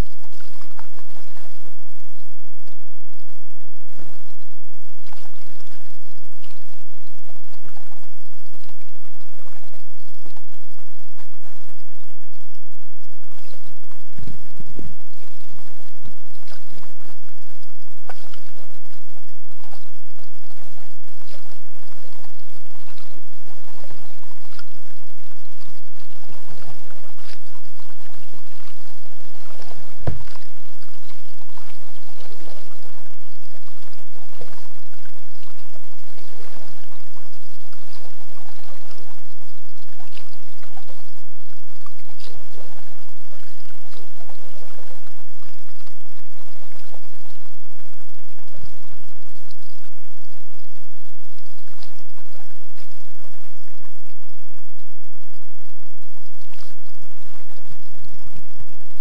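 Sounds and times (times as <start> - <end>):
kayak paddle splashing: 0.0 - 59.0.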